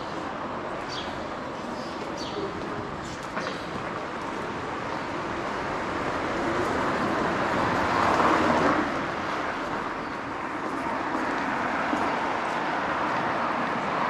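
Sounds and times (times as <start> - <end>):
street hum: 0.0 - 14.0.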